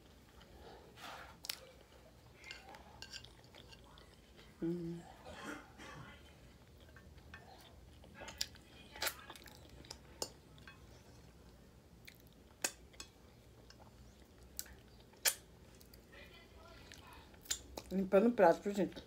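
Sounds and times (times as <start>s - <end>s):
quiet chewing: 0.0s - 5.3s, 6.1s - 18.1s.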